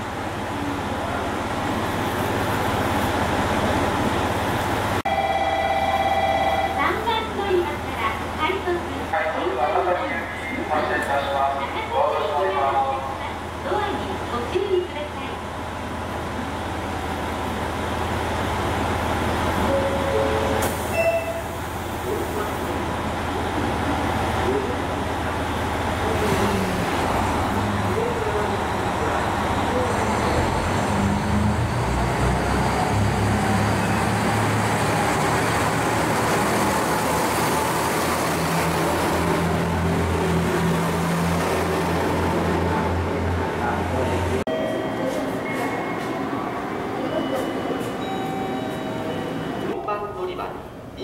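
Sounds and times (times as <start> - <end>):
diesel railcar engine rumbling: 0.0 - 51.0.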